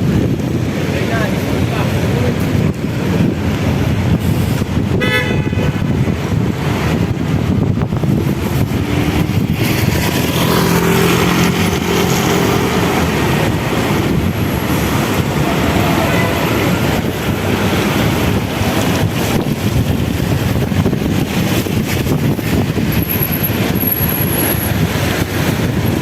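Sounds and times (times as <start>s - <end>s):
cars passing road noise: 0.0s - 26.0s.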